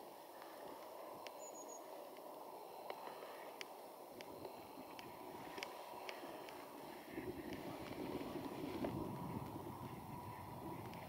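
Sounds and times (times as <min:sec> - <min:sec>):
steady low rush: 0:00.0 - 0:11.0.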